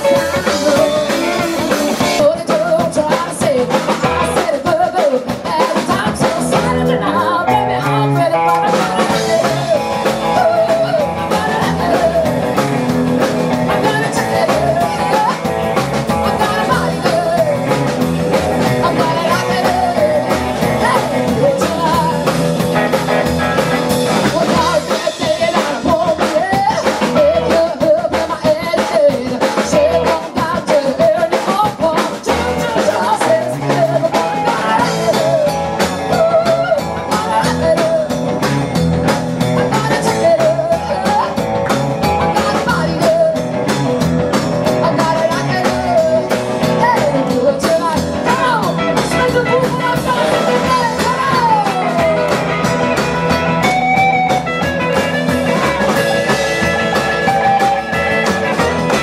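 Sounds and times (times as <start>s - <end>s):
woman singing lead vocal: 0.0s - 23.3s, 24.0s - 54.4s
drums: 0.0s - 59.0s
electric guitar: 0.0s - 59.0s
upright double bass: 5.9s - 28.0s, 32.3s - 59.0s.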